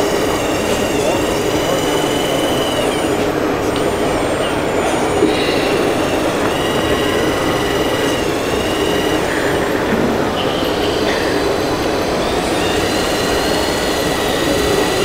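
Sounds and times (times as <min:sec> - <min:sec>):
steady background noise: 0:00.0 - 0:15.0
toy excavator motors whining: 0:00.0 - 0:15.0.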